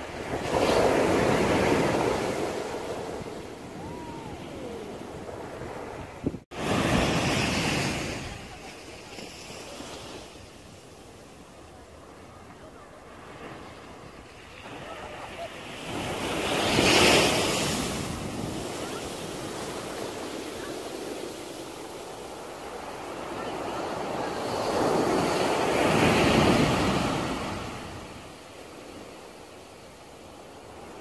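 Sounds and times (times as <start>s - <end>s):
small waves washing up beach: 0.0s - 31.0s.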